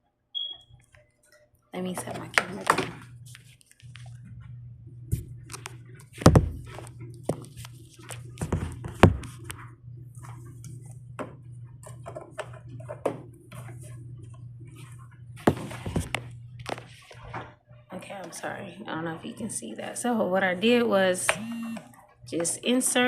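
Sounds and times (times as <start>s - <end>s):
steady low hum: 1.8s - 23.0s.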